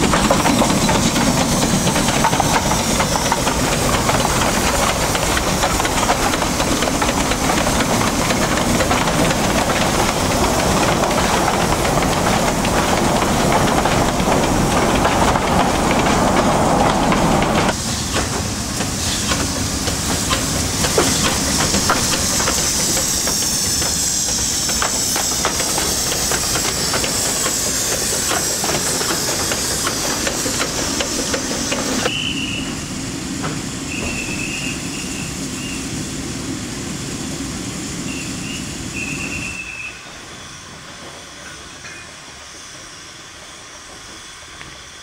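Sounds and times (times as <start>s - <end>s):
steam locomotive hissing: 0.0s - 45.0s.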